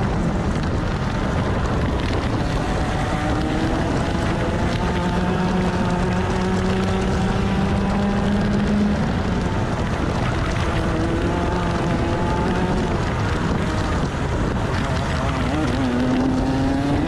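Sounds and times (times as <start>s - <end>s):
kart engine revving high: 0.0s - 17.0s
wind rushing over microphone: 0.0s - 17.0s.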